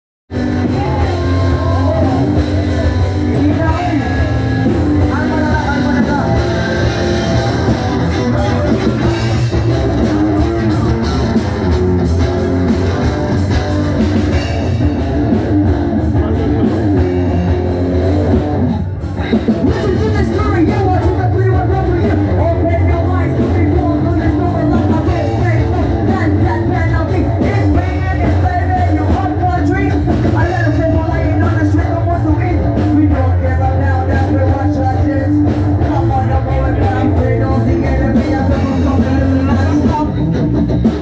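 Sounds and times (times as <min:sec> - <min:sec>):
person singing: 0:00.3 - 0:12.5, 0:19.2 - 0:41.0
drum kit: 0:00.3 - 0:41.0
electric guitars: 0:00.3 - 0:41.0.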